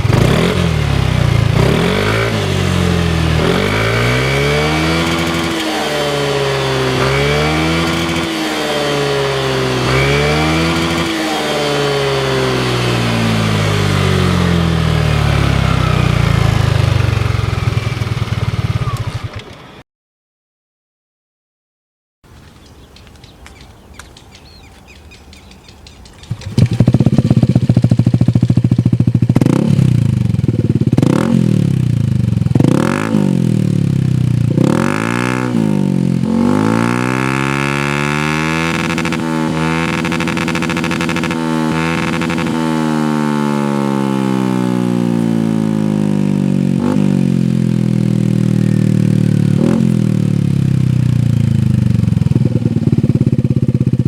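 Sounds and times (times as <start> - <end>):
scooter engine revving: 0.0 - 19.6, 26.2 - 54.0.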